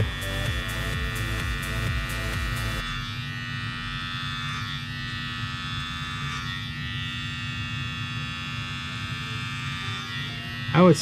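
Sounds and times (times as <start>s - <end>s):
electric fabric shaver humming: 0.0s - 11.0s.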